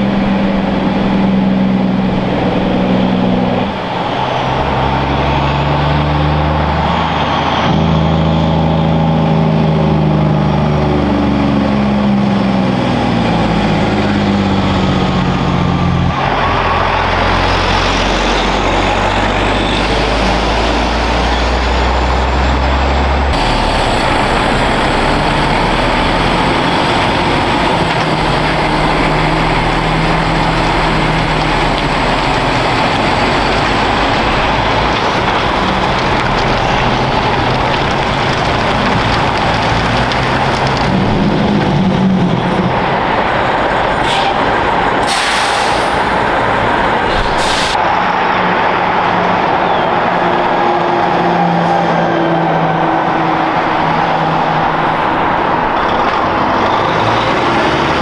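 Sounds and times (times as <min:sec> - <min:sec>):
diesel trucks passing: 0:00.0 - 0:58.0.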